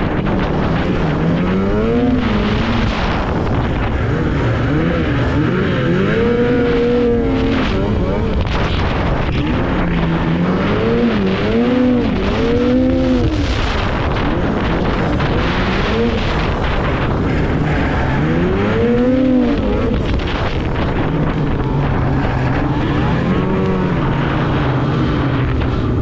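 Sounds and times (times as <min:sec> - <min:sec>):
snowmobile engine revving: 0:00.0 - 0:26.0
steady rushing noise: 0:00.0 - 0:26.0.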